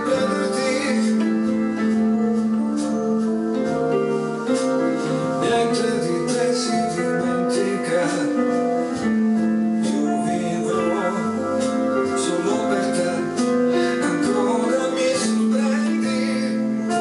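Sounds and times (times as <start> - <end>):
keyboard piano passage: 0.0 - 17.0.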